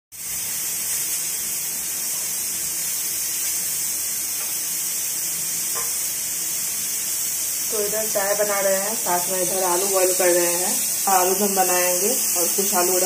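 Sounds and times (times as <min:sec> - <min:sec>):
gas stove hissing: 0:00.1 - 0:13.0
milk boiling in a saucepan: 0:00.2 - 0:13.0.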